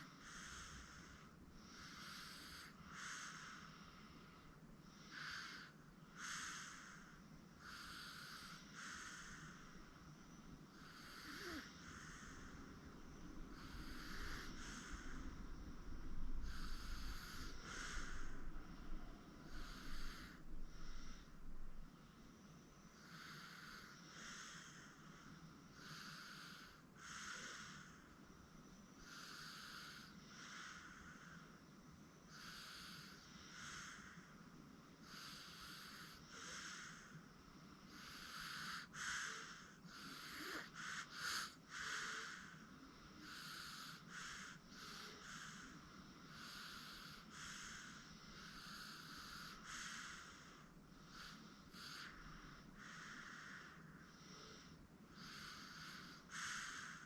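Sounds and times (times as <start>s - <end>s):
baby snoring softly: 0.0s - 21.4s, 22.4s - 57.0s.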